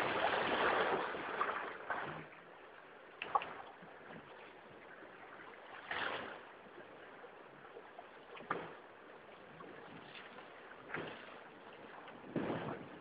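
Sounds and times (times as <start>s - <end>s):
water swooshes: 0.0s - 2.5s, 3.2s - 13.0s
water rushing along hull: 0.0s - 13.0s.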